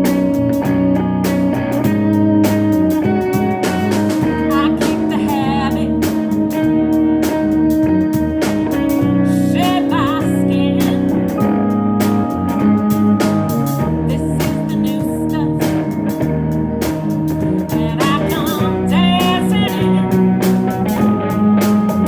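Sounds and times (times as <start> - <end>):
band playing: 0.0 - 22.0
drums steady beat: 0.0 - 22.0
wavering lead line: 0.0 - 22.0.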